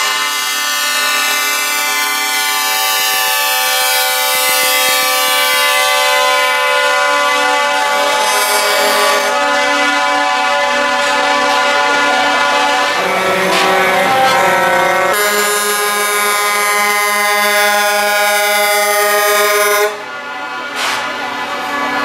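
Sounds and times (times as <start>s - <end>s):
truck air horn chord: 0.0s - 22.0s.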